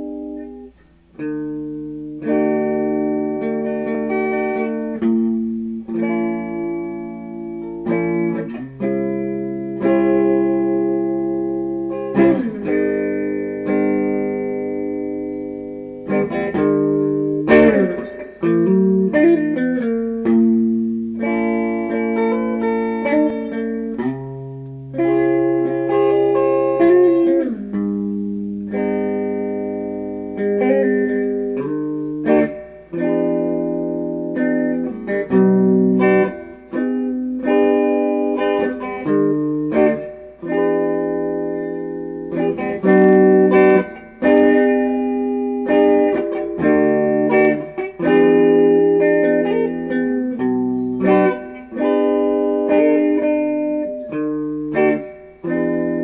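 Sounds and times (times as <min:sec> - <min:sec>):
plucked guitar chords: 0:00.0 - 0:56.0.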